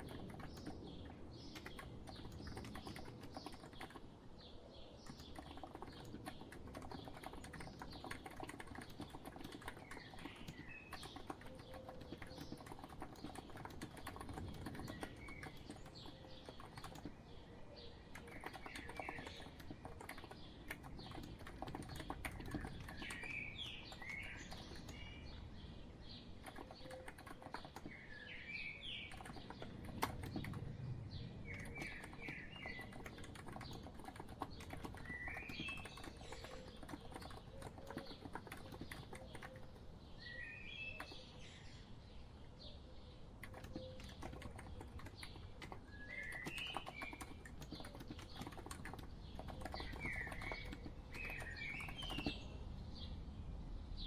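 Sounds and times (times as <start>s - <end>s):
keyboard typing: 0.0s - 4.2s, 5.0s - 25.2s, 26.3s - 28.0s, 29.0s - 30.8s, 31.5s - 40.2s, 40.8s - 41.4s, 43.4s - 52.6s
songbird chirping: 0.0s - 54.0s.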